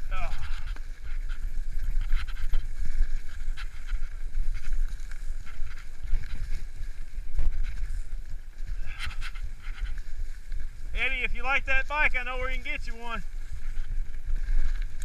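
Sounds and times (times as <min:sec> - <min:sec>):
bike clicks and rattles: 0:00.0 - 0:11.0, 0:13.3 - 0:15.0
bike tyres rolling over dry leaves: 0:00.0 - 0:15.0
wind rumble on microphone: 0:00.0 - 0:15.0.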